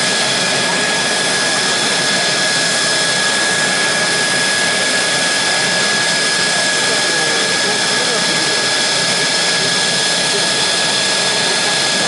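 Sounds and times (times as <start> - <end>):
jet engine running: 0.0 - 12.0.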